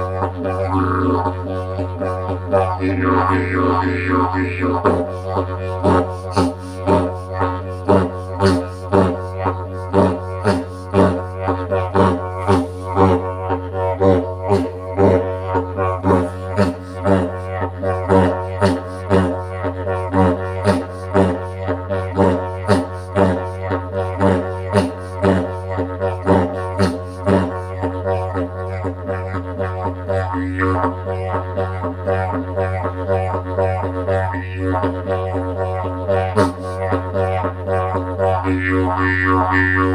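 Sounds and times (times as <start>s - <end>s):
didgeridoo drone: 0.0s - 39.9s.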